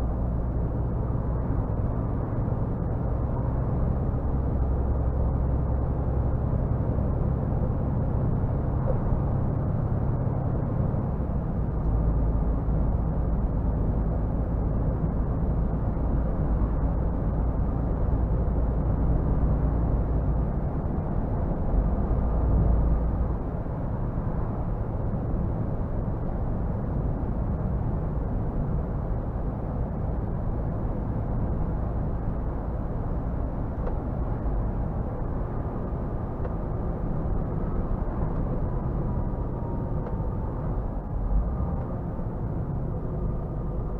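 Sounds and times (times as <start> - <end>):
road noise: 0.0 - 43.9
truck diesel engine droning: 0.0 - 43.9.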